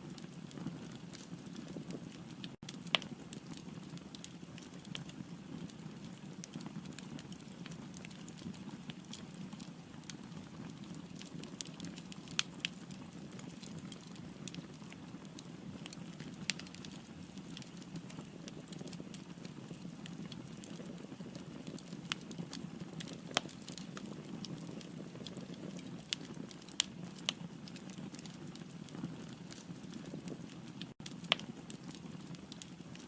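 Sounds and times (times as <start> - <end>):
fire rumbling: 0.1 - 33.0
firewood crackling and popping: 0.1 - 33.0.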